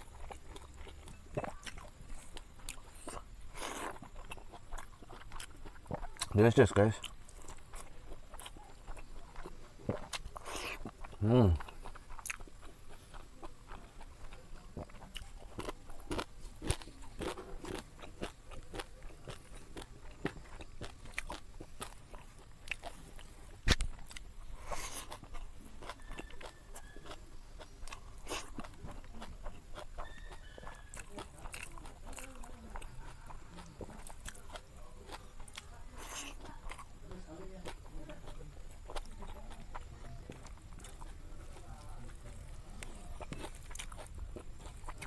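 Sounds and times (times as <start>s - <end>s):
person chewing crunchy food: 0.0s - 45.0s.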